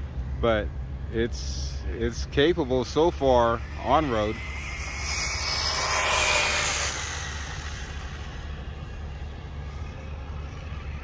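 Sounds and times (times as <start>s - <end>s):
rc car motor whine and tyres: 0.0s - 11.0s
low rumble: 1.6s - 11.0s.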